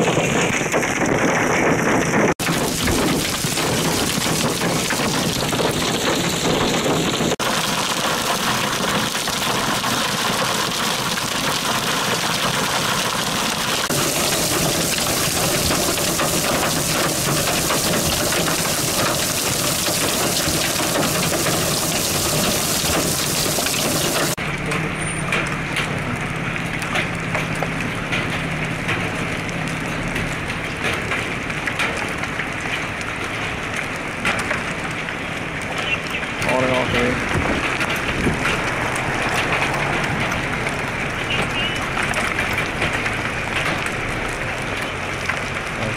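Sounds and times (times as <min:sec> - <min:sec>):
heavy rain and hail falling: 0:00.0 - 0:45.9.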